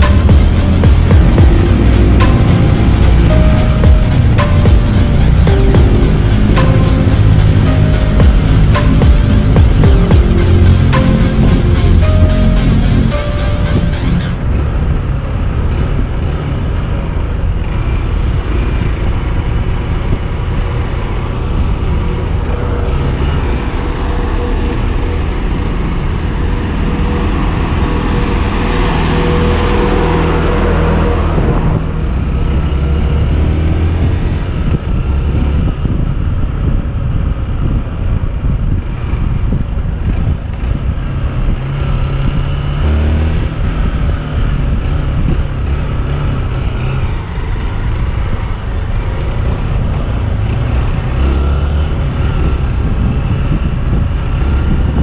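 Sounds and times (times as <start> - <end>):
motorcycle engine running: 0.0 - 55.0
rushing road noise: 0.0 - 55.0.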